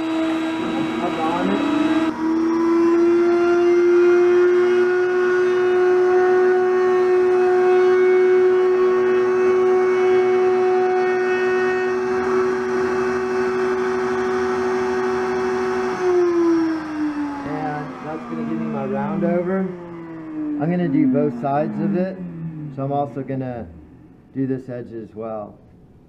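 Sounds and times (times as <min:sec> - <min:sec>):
router high whine: 0:00.0 - 0:24.4.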